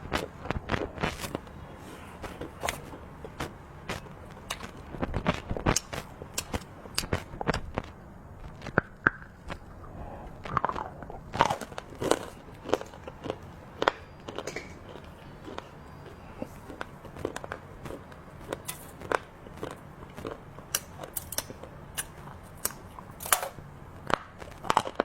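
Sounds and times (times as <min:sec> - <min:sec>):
crunchy chewing: 0:00.0 - 0:25.0.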